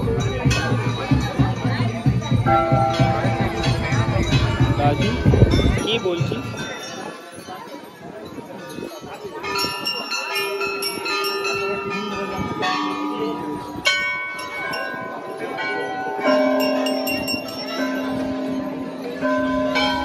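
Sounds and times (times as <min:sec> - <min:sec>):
brass bells ringing: 0:00.0 - 0:20.0.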